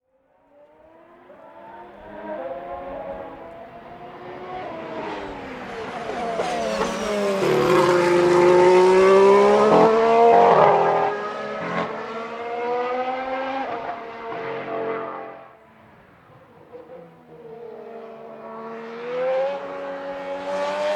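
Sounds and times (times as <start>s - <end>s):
race car engine passing: 0.6s - 20.9s.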